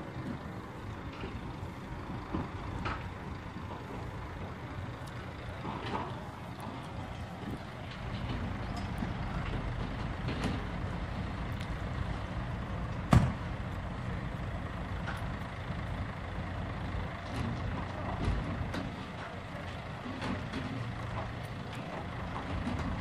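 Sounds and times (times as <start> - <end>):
diesel lorry engine idling: 0.0 - 23.0.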